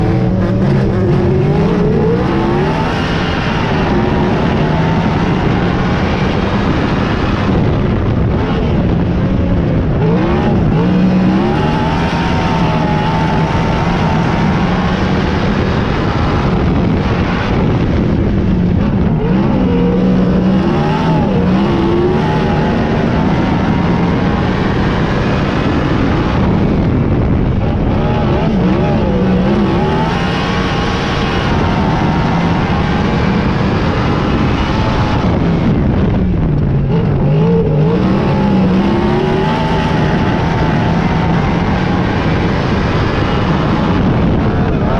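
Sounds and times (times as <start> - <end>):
racing car engines: 0.0 - 44.9.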